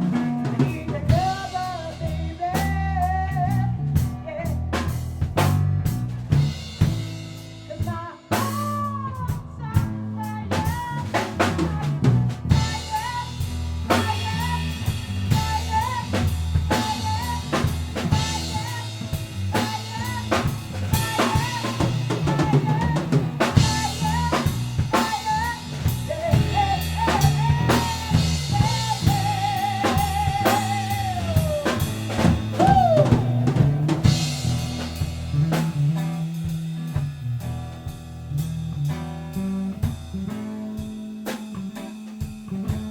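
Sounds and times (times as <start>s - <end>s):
bass guitar line: 0.0s - 42.9s
drum kit beat: 0.0s - 42.9s.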